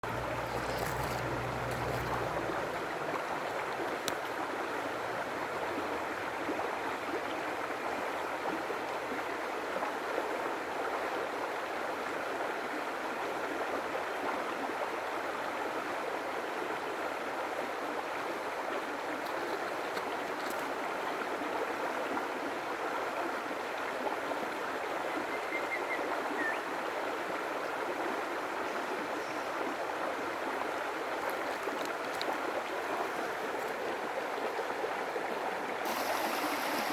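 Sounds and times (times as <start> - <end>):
stream of water flowing: 0.0 - 36.9.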